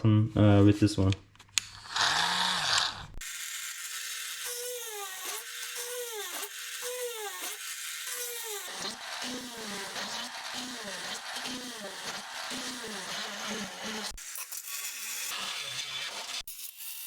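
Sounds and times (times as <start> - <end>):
rotary tool motor whining: 1.7 - 17.0.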